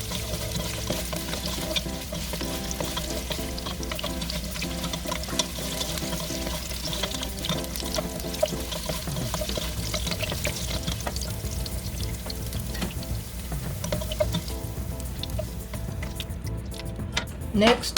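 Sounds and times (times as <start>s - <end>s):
vegetables sizzling in a pan: 0.0s - 16.4s
stirring in a pan: 0.0s - 16.9s
instrumental background music: 0.0s - 17.9s.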